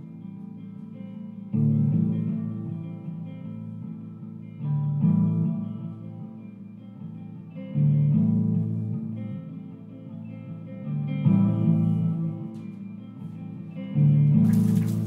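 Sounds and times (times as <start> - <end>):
guitar chords ringing: 0.0 - 15.0.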